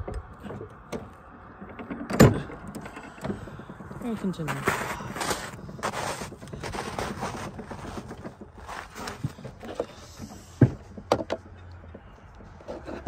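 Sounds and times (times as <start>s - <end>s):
scraping and knocking: 0.0s - 13.0s.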